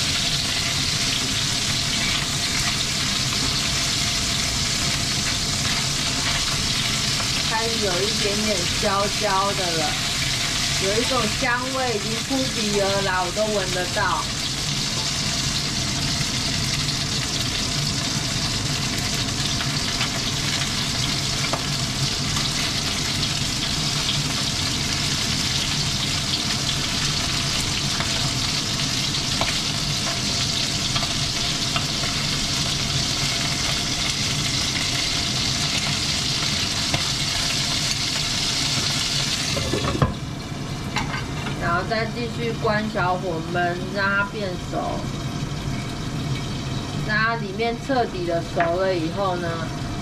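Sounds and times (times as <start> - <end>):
chicken wings sizzling in hot oil: 0.0 - 50.0.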